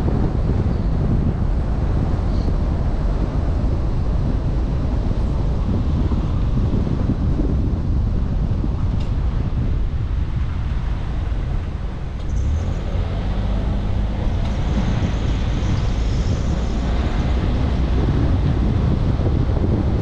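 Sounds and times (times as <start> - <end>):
car driving rumble: 0.0 - 20.0
road and tyre noise: 0.0 - 20.0
wind buffeting microphone: 0.0 - 20.0.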